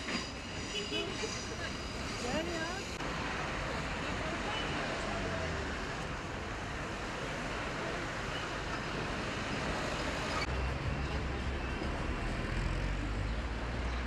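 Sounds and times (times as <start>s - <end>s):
passing cars: 1.0s - 14.0s.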